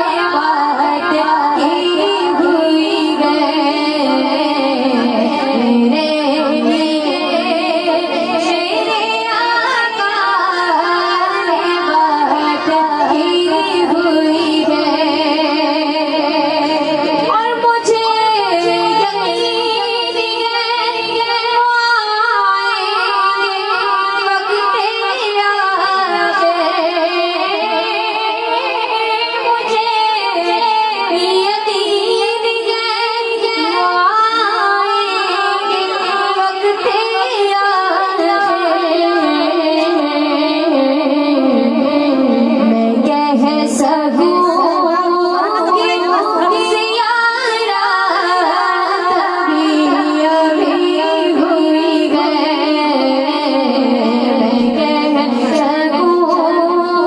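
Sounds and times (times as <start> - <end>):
woman singing: 0.0 - 57.0.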